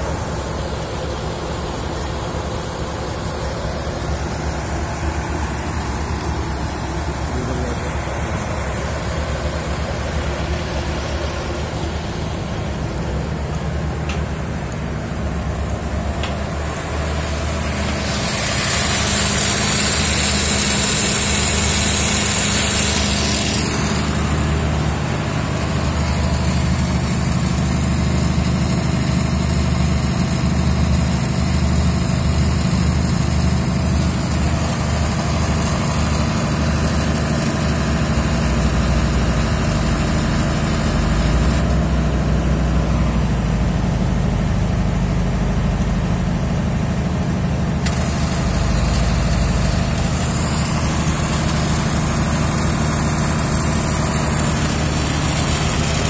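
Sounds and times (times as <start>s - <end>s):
heavy machinery engine idling: 0.0s - 56.0s.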